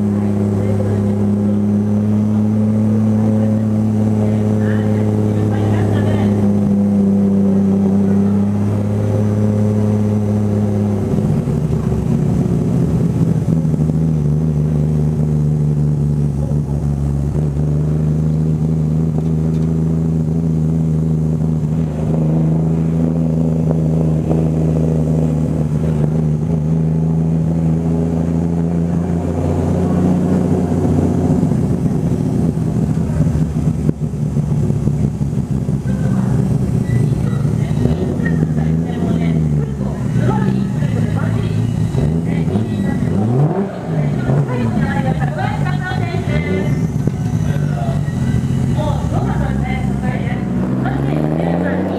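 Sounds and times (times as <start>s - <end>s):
car engine running: 0.0s - 51.9s.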